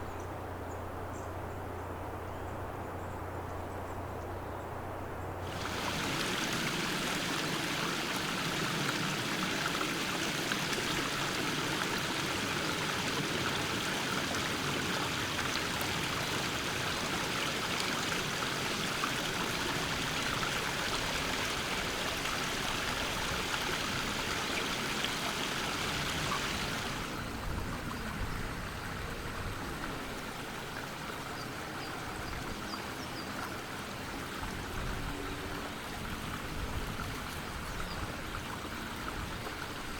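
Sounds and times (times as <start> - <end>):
stream running over stones: 5.4 - 39.9.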